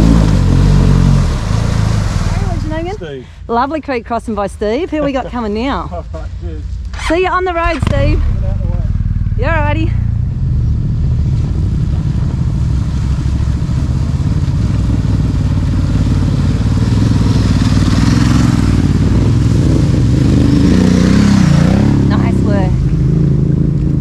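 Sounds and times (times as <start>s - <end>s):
water splashing: 0.0s - 3.4s, 4.9s - 24.0s
motorcycle engines running: 0.0s - 24.0s.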